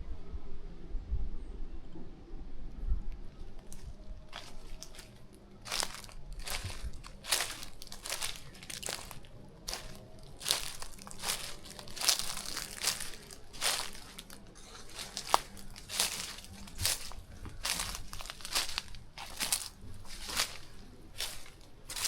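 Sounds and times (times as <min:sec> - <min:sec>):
footsteps crunching on rough ground: 0:03.6 - 0:22.0.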